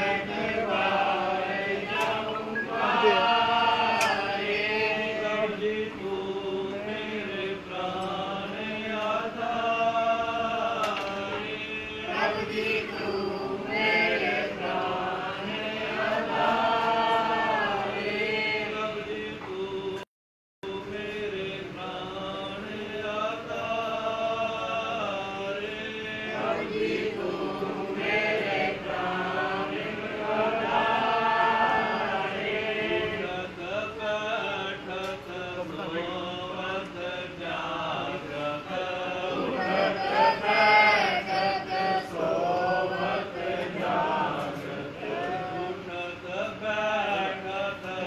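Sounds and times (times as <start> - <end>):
men chanting a hymn: 0.0 - 20.0, 20.7 - 48.0.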